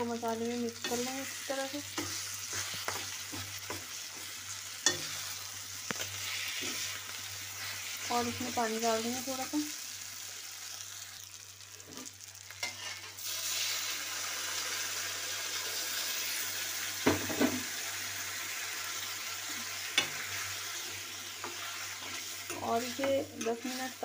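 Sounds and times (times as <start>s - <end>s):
hissing sizzle in a pan: 0.0s - 24.0s.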